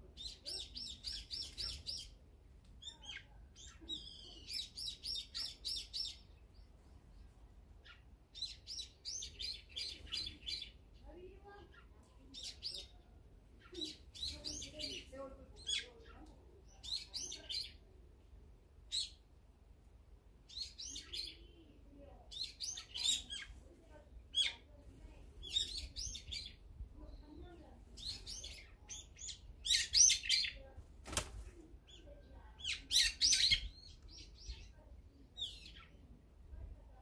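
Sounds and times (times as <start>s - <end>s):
small songbirds chirping: 0.0s - 17.9s, 18.8s - 19.2s, 20.4s - 23.6s, 24.2s - 30.8s, 31.7s - 36.4s.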